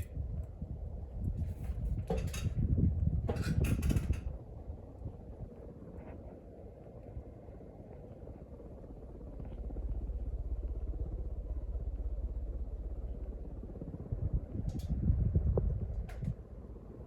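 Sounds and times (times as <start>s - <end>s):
ceiling fan running: 0.0s - 17.0s.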